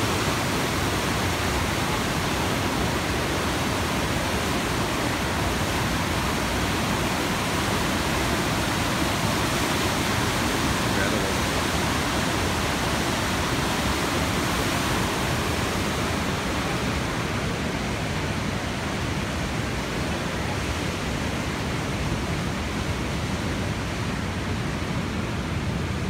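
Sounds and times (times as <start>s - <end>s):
waterfall and rapids roaring: 0.0s - 26.0s.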